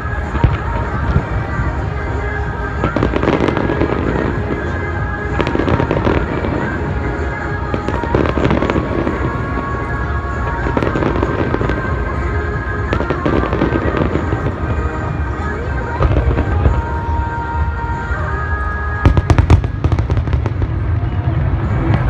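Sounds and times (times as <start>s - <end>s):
fireworks bursting and booming: 0.0s - 22.0s
fireworks crackle: 0.0s - 22.0s
music playing: 0.0s - 22.0s.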